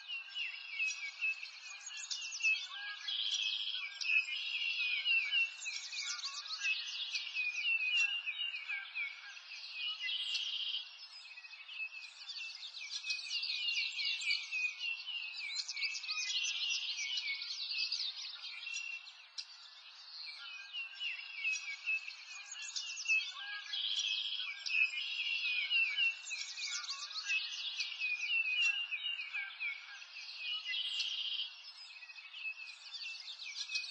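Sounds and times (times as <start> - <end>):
songbirds chirping and singing: 0.0 - 33.9.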